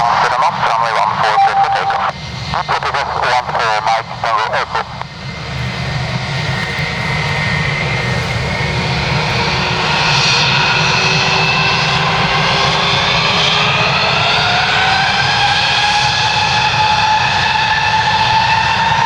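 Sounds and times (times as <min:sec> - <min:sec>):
low engine rumble: 0:00.0 - 0:15.5
jet engine whine rising: 0:00.0 - 0:19.0.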